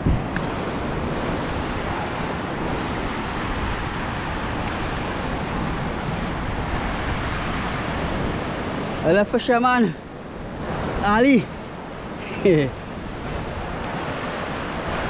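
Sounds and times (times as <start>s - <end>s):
wind on microphone: 0.0s - 9.1s, 10.1s - 15.0s
ocean surf breaking: 0.0s - 15.0s.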